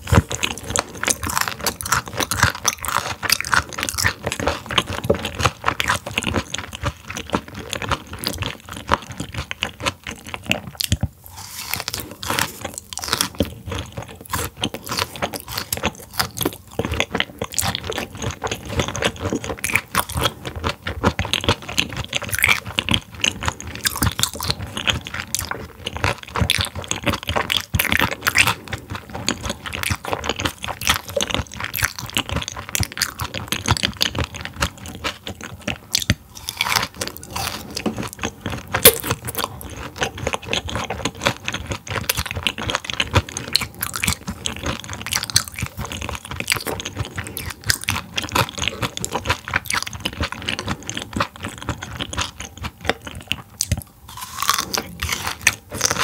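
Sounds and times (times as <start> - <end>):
chewing crunchy raw fish: 0.0 - 56.0.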